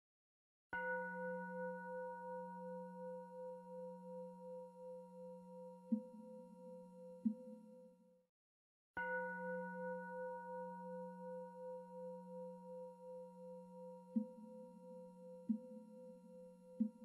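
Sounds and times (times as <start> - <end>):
singing bowl ringing: 0.8 - 7.8, 9.0 - 16.8.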